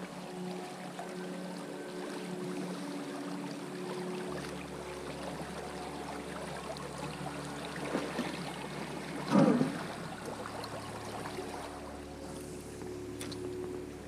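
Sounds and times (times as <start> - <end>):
river water running: 0.0 - 14.0.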